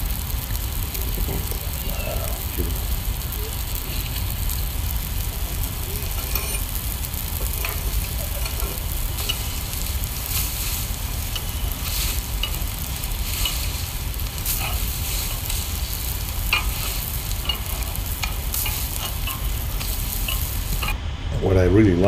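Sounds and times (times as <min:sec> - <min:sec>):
eggs sizzling in oil: 0:00.0 - 0:21.0
small pops and crackles: 0:00.0 - 0:21.0.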